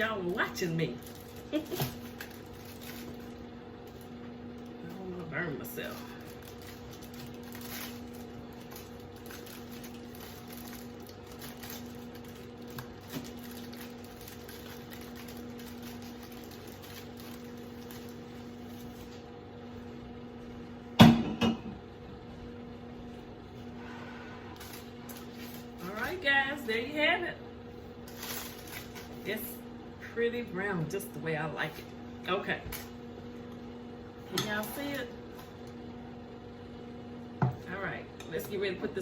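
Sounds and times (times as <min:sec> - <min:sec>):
low kitchen hum: 0:00.0 - 0:39.0.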